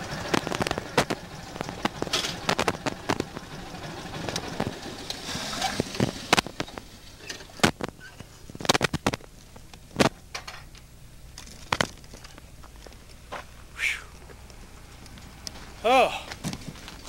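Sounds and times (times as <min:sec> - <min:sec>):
vehicle hum: 0:00.0 - 0:17.0.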